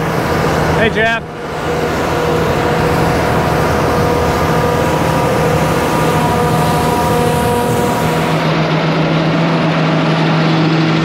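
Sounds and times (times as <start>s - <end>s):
tractor and combine running: 0.0s - 11.0s.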